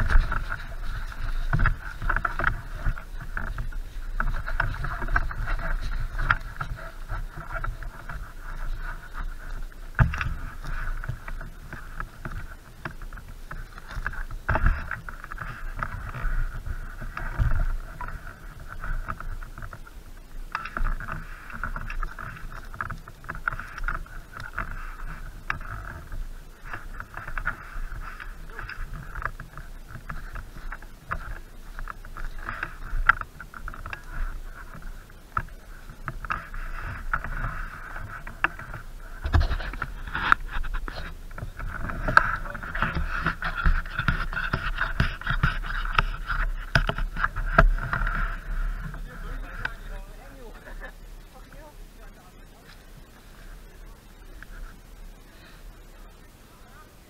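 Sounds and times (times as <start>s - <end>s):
footsteps on dry leaves and twigs: 0.0s - 54.9s
steady hiss: 0.0s - 57.0s.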